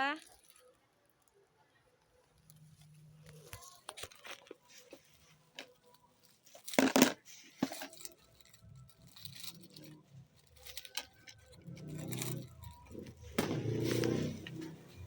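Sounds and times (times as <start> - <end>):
plastic packaging crinkling: 2.4 - 15.0.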